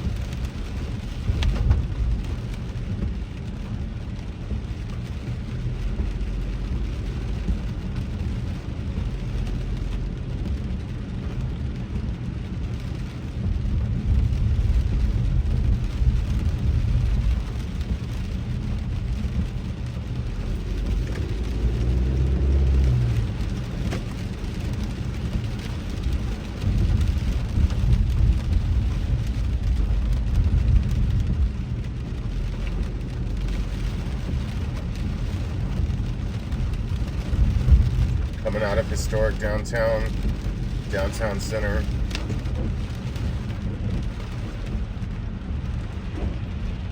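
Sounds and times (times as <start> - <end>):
rain and spray hiss: 0.0 - 46.9
tyres and engine rumble: 0.0 - 46.9.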